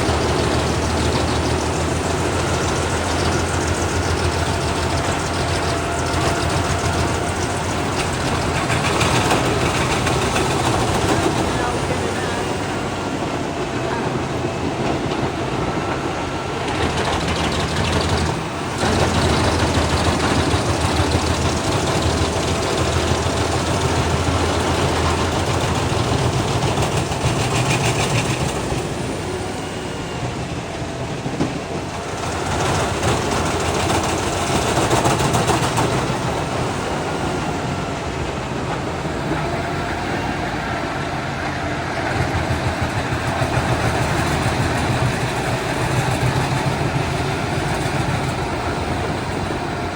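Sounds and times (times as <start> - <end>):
heavy engine running: 0.0 - 49.9.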